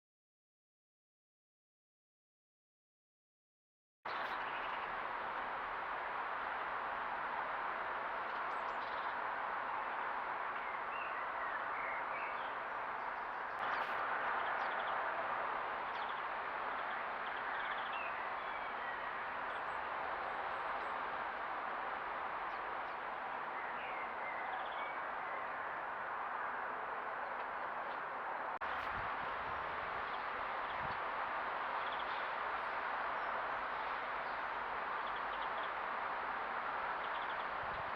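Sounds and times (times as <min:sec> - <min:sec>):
songbirds chirping and trilling: 0:04.1 - 0:37.9.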